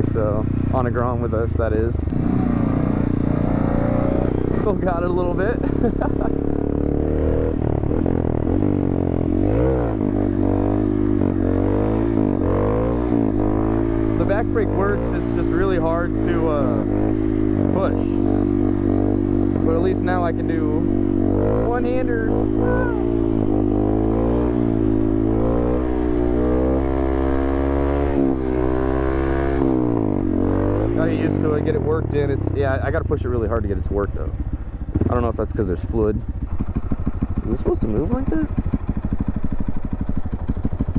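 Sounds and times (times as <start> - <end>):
small motorcycle engine revving: 2.0 - 32.8, 33.6 - 40.9.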